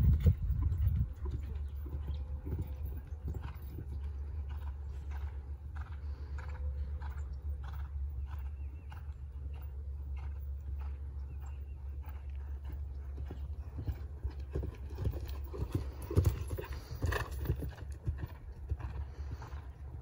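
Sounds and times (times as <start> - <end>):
hoofbeats on sand: 0.0 - 19.7
steady low rumble: 0.0 - 20.0.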